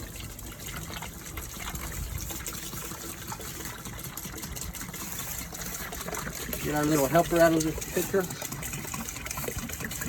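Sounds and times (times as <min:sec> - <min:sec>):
vinegar pouring into a bucket: 0:00.0 - 0:10.0.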